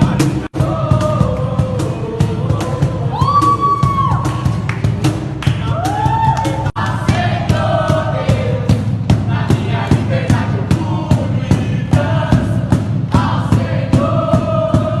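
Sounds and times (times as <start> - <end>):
band drum beat: 0.0 - 15.0
many voices singing together: 0.0 - 15.0.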